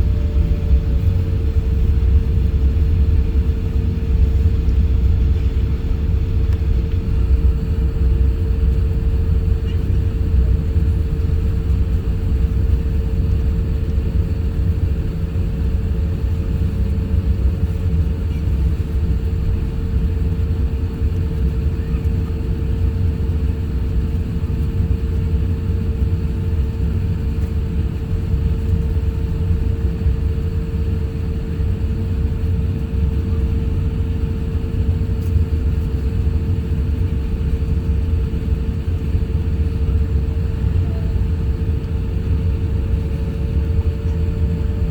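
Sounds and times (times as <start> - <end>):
aircraft cabin engine rumble: 0.0 - 44.9
constant hum: 0.0 - 44.9.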